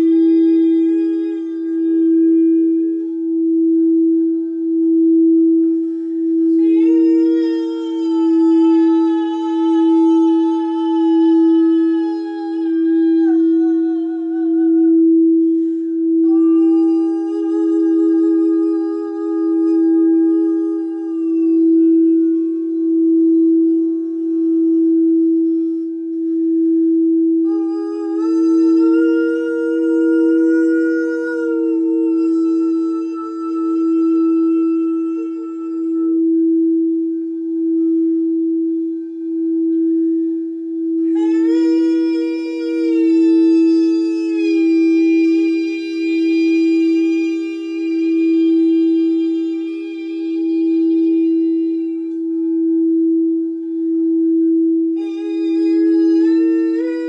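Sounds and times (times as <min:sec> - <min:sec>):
singing bowl humming tone: 0:00.0 - 0:57.0
woman toning sustained notes: 0:00.0 - 0:57.0.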